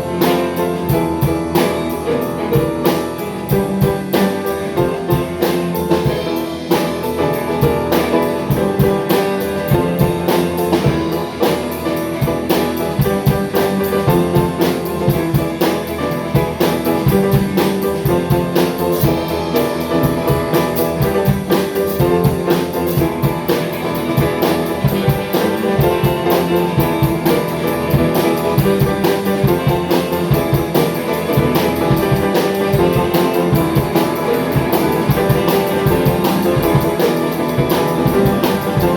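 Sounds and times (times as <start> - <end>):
band playing drums and guitar: 0.0 - 38.9.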